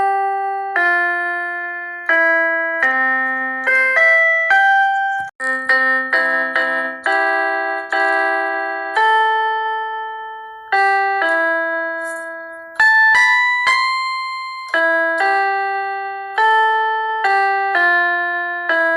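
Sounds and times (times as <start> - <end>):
keyboard chords: 0.0 - 18.9.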